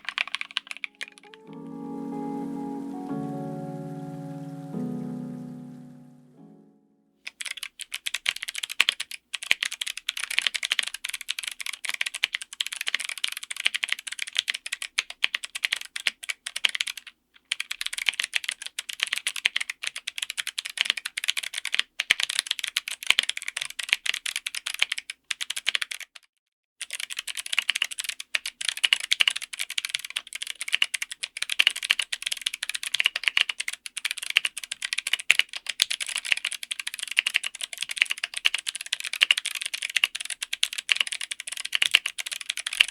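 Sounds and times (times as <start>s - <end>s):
typing on a mechanical keyboard: 0.0s - 1.5s, 7.3s - 42.9s.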